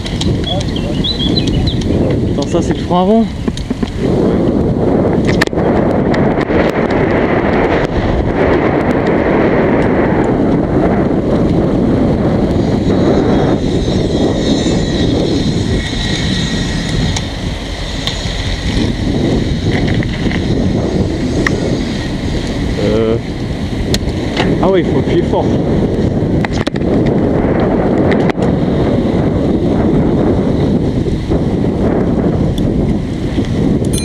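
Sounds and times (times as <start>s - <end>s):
bike tyres rumbling on pavement: 0.0s - 34.0s
wind buffeting microphone: 0.0s - 34.0s.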